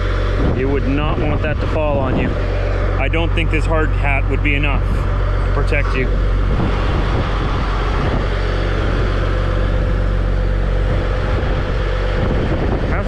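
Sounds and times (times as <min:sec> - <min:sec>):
diesel engine running: 0:00.0 - 0:13.0
thin steady whine: 0:00.0 - 0:13.0
wind on microphone: 0:00.0 - 0:13.0.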